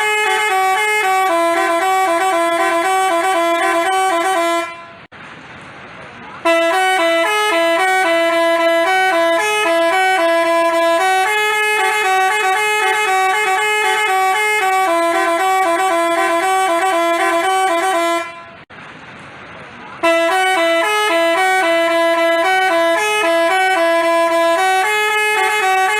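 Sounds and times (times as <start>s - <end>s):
bus horn playing a melody: 0.0s - 5.1s, 6.4s - 18.7s, 20.0s - 25.9s.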